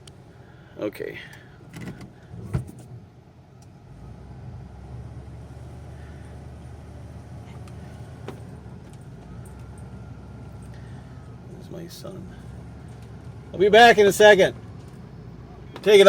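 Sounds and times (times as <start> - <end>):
engine rumbling inside cab: 0.0 - 16.0.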